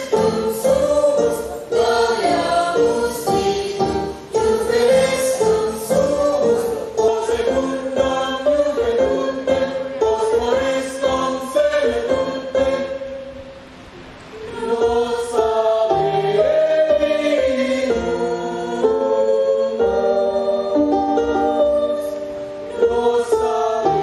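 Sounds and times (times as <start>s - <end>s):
women singing together: 0.0s - 13.0s, 14.5s - 24.0s.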